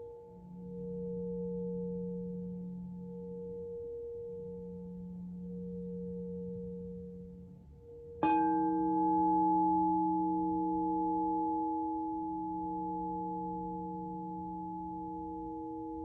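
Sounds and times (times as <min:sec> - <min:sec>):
low singing bowl hum: 0:00.0 - 0:16.0
singing bowl struck and ringing: 0:00.0 - 0:16.0.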